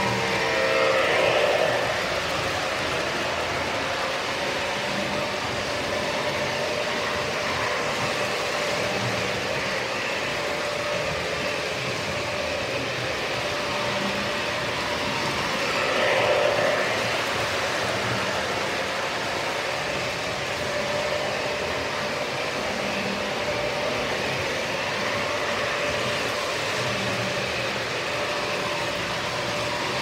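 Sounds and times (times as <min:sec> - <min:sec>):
model train wheels rumbling on rails: 0:00.0 - 0:30.0
model train whine: 0:00.0 - 0:30.0.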